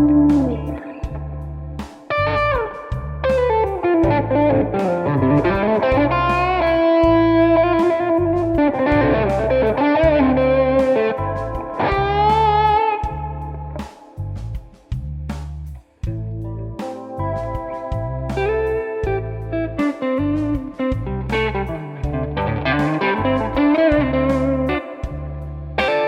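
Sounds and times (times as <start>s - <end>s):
electric guitar lead: 0.0s - 14.2s, 16.1s - 26.0s
backing track with bass and drums: 0.0s - 26.0s.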